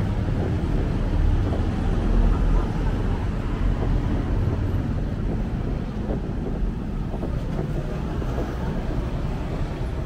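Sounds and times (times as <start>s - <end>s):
passing traffic rumble: 0.0s - 10.0s
wind on microphone: 0.0s - 10.0s.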